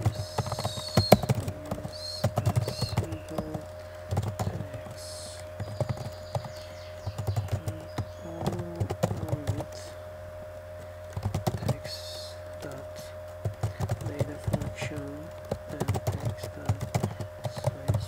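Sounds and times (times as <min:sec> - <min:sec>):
keyboard keys clicking: 0:00.0 - 0:09.9, 0:11.1 - 0:18.0
steady electrical hum: 0:00.0 - 0:18.0.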